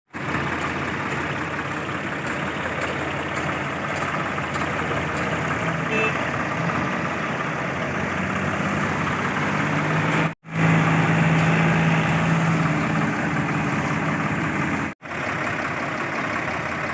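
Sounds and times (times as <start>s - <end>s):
tractor diesel engine running: 0.1s - 16.9s.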